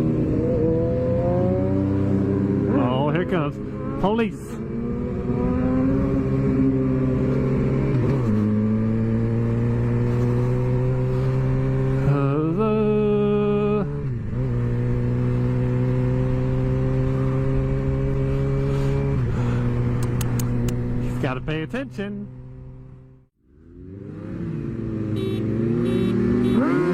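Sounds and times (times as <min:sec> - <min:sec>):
motorcycle engine revving high: 0:00.0 - 0:21.2, 0:22.4 - 0:26.9.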